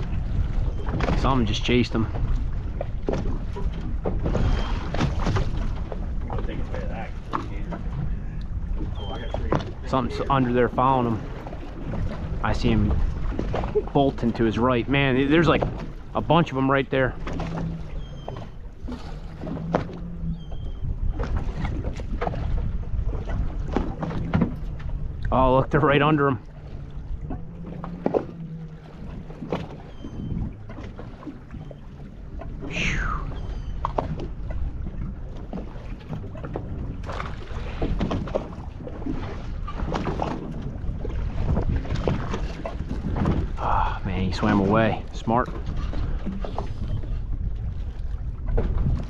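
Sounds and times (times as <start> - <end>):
wind on microphone: 0.0 - 25.4, 26.4 - 49.0
waves lapping against boat hull: 0.0 - 49.0.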